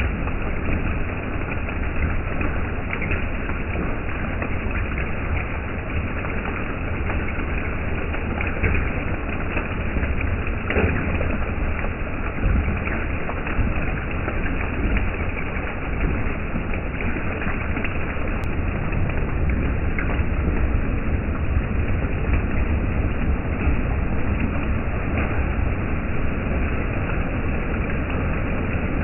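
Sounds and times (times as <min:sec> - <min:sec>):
hail and rain pelting road: 0:00.0 - 0:29.0
low rumble: 0:00.0 - 0:29.0.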